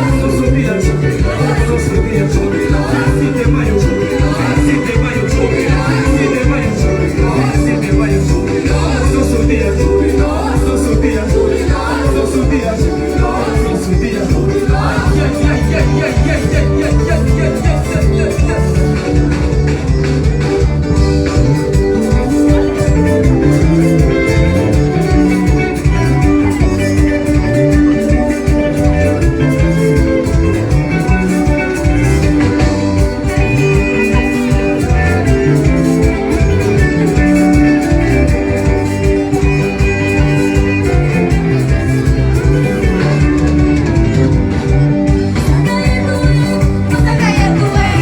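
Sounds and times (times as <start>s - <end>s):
band music: 0.0s - 48.0s.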